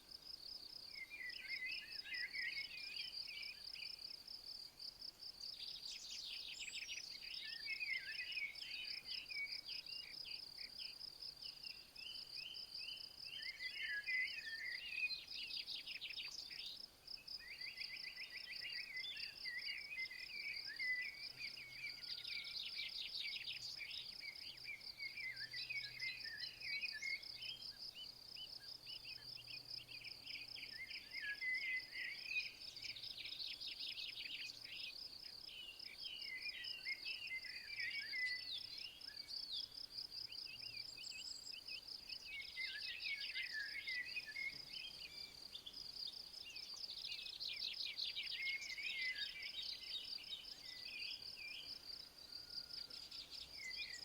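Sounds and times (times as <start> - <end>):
insect chirping: 0.3 - 54.0
songbird singing trills: 0.8 - 4.2, 5.3 - 54.0.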